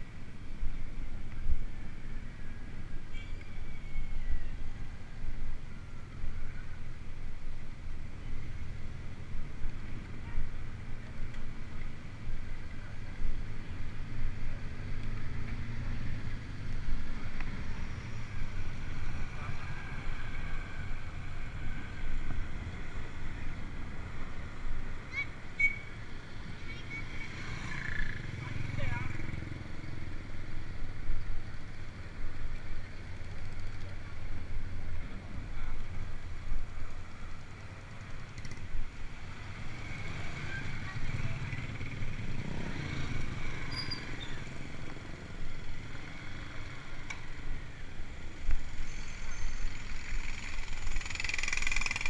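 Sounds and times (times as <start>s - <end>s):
vehicle rumble with engine hum: 0.0s - 52.0s.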